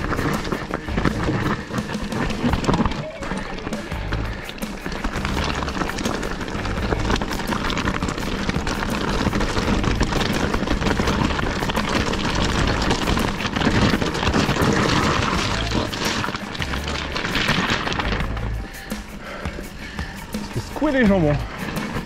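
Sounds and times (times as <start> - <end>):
background music: 0.0 - 22.0
bike rattling over rocks: 0.0 - 22.0
bike tyres rumbling: 0.0 - 22.0.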